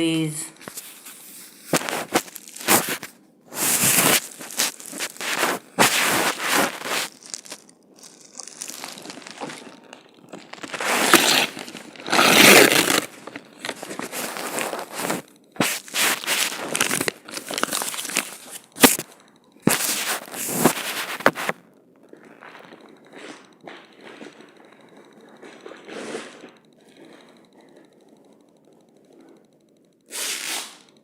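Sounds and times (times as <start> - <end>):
plastic packaging crinkling: 0.6 - 27.2.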